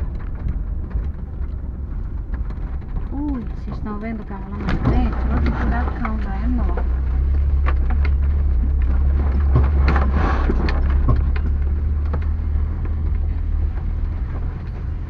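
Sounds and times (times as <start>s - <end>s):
vehicle body rattling: 0.0s - 15.0s
vehicle engine droning: 0.0s - 15.0s.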